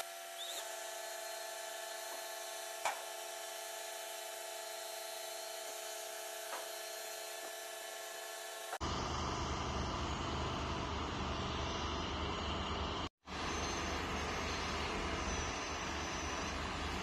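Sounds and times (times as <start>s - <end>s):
machine hum with held tones: 0.0s - 6.0s, 6.8s - 17.0s.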